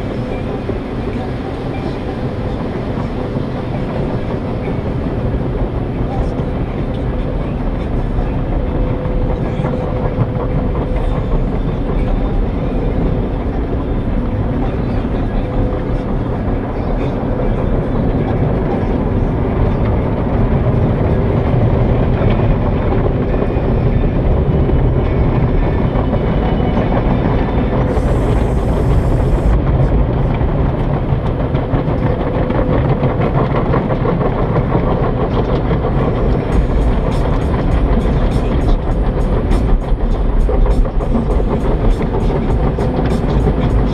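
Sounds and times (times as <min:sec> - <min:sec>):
car wash equipment rumbling: 0:00.0 - 0:43.9.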